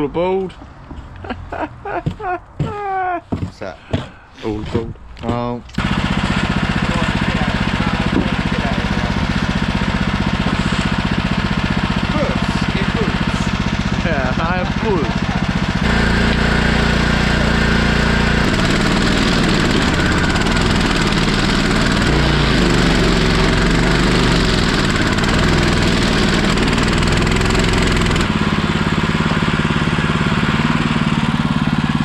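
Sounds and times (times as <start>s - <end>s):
stump grinder engine running: 5.7s - 32.0s.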